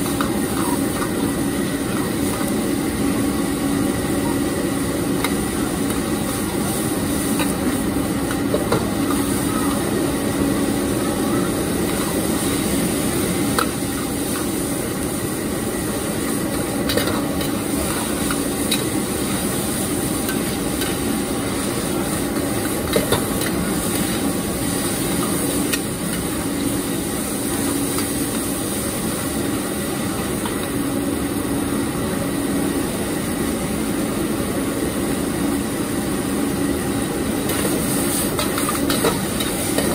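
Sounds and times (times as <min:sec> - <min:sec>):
food sizzling: 0:00.0 - 0:31.5, 0:37.4 - 0:39.9
stove burner rushing: 0:00.0 - 0:31.6, 0:37.4 - 0:39.9.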